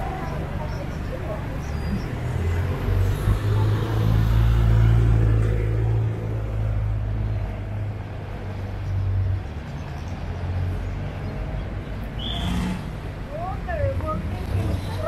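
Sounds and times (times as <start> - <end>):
street traffic noise: 0.0 - 15.0
vehicle engine rumble passing: 0.0 - 15.0.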